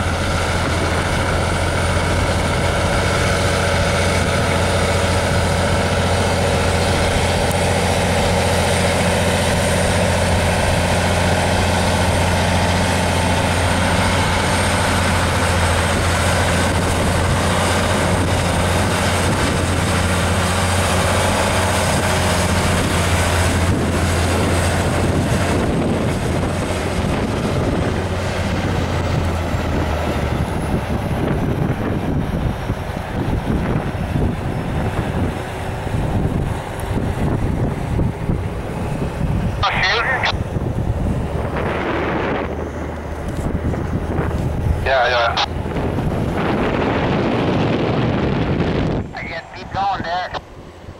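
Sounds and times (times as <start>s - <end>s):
wind buffeting microphone: 0.0s - 39.7s, 40.3s - 50.9s
diesel truck engine drone: 0.0s - 50.9s.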